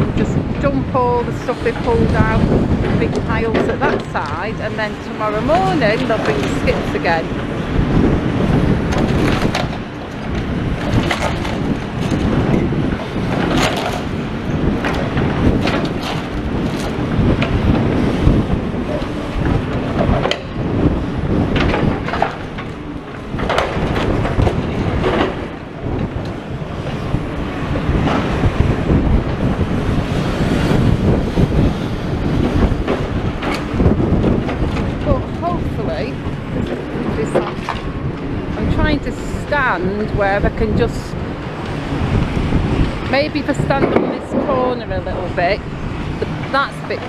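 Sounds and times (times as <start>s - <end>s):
excavator working: 0.0s - 47.0s
wind buffeting microphone: 0.0s - 47.0s.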